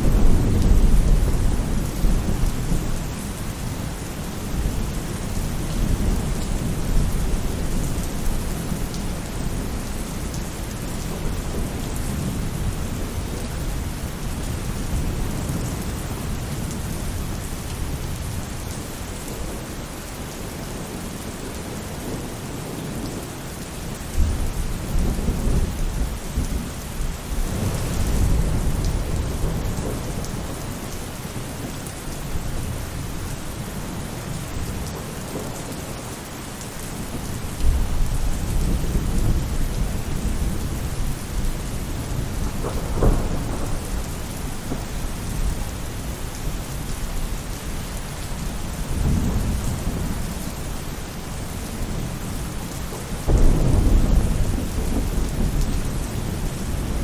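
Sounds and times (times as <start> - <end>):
rain falling on roof: 0.0 - 57.0.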